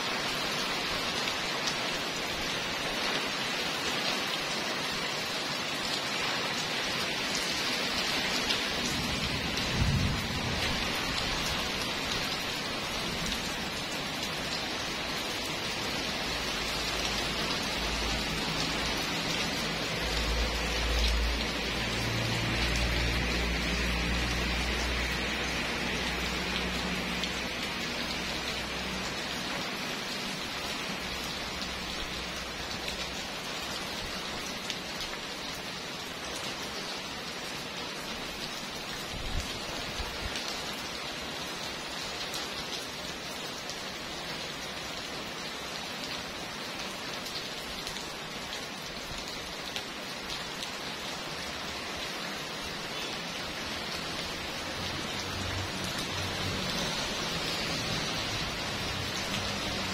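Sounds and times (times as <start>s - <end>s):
heavy rain on wet paving: 0.0s - 59.9s.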